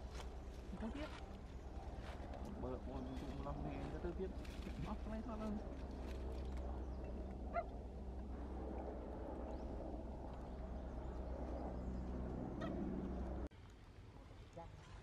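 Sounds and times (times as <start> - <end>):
steady low hum: 0.0 - 13.5
faint outdoor background: 0.0 - 15.0.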